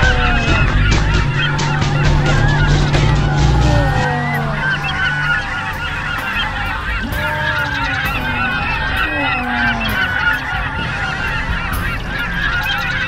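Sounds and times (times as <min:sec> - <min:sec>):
flock of gulls calling: 0:00.0 - 0:13.0.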